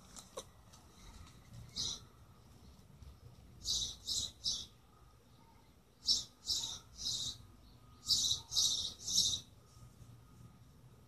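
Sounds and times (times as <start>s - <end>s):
bird chirping: 0.3s - 10.6s.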